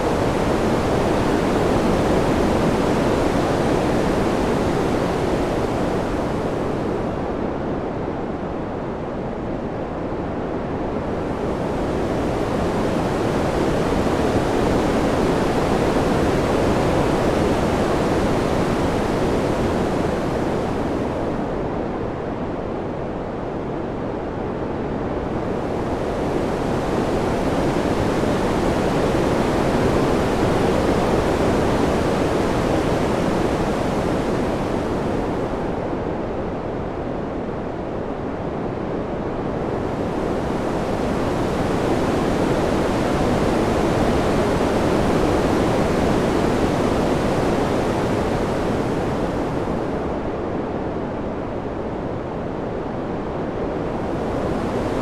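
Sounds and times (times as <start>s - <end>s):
rushing wind: 0.0s - 55.0s.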